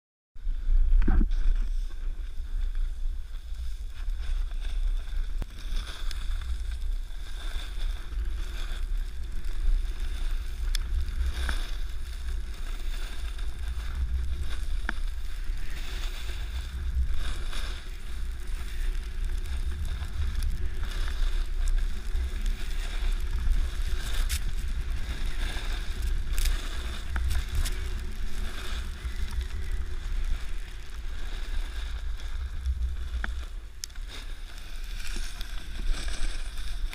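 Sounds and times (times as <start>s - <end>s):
wind buffeting microphone: 0.4s - 36.9s
snowboard scraping on packed snow: 0.5s - 36.9s.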